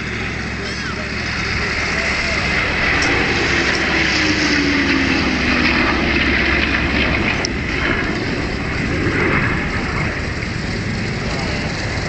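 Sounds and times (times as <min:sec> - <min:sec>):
jet planes flying past: 0:00.0 - 0:12.0.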